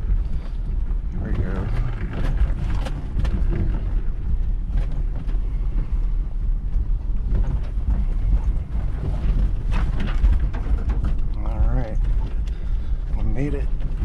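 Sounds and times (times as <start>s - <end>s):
engine and tyres rumbling: 0.0s - 14.0s
knocks and rattles of vehicle: 0.0s - 14.0s.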